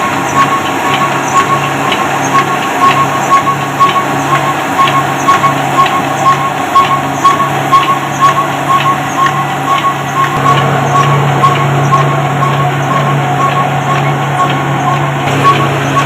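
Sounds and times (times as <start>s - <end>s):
diesel engine knocking: 0.0s - 16.0s.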